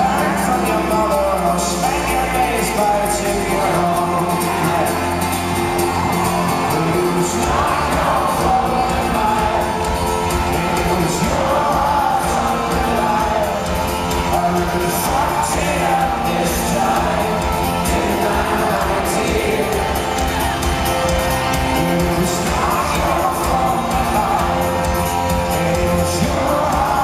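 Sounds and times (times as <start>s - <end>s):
folk-rock band playing: 0.0s - 27.0s
person singing: 0.0s - 27.0s.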